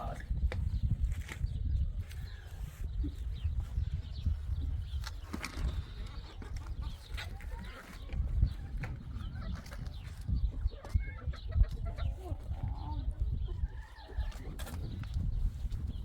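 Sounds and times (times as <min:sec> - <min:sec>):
chickens clucking: 0:01.8 - 0:16.0.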